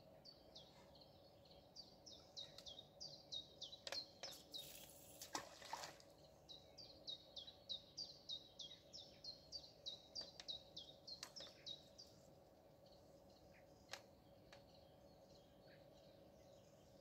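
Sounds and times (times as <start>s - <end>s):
faint steady hum: 0.0s - 17.0s
small bird singing faintly: 0.0s - 17.0s.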